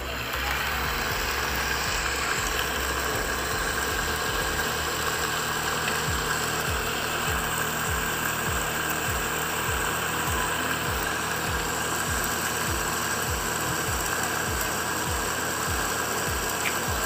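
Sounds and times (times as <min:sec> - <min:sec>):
blender grinding peanuts: 0:00.0 - 0:17.0.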